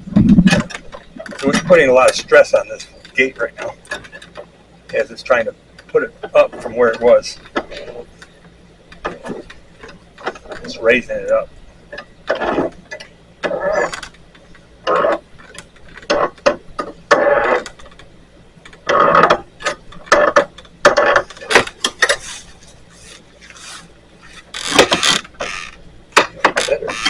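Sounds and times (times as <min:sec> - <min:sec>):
metal creaking and grinding: 0:00.0 - 0:27.0.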